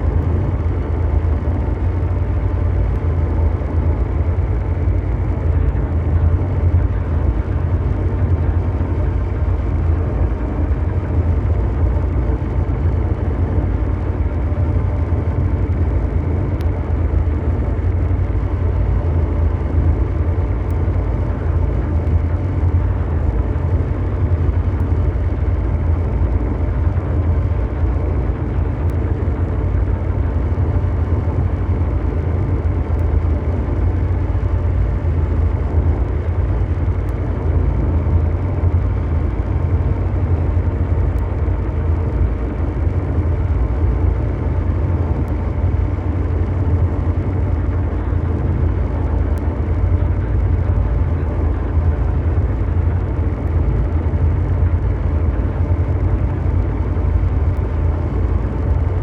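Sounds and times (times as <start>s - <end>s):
deep mechanical drone: 0.0s - 59.0s
faint steady hum: 0.0s - 59.0s.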